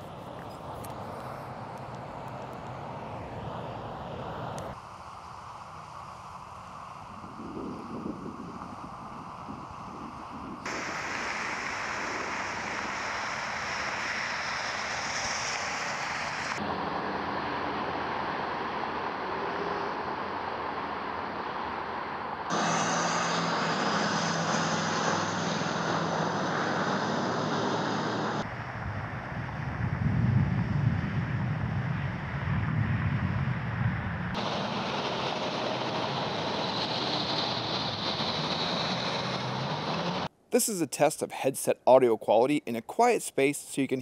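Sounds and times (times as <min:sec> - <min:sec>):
steady rushing ambient noise: 0:00.0 - 0:29.6, 0:33.9 - 0:41.8.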